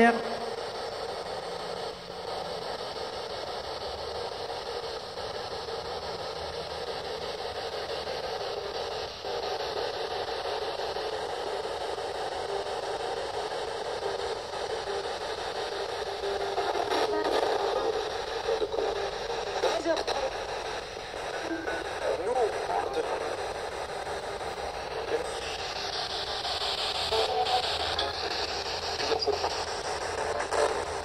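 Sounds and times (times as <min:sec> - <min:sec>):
static-like hiss: 0:00.0 - 0:31.0.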